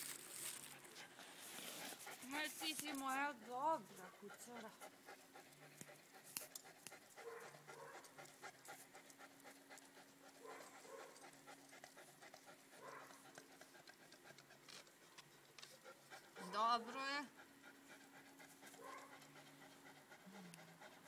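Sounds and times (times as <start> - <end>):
dog panting: 0.7 - 21.0.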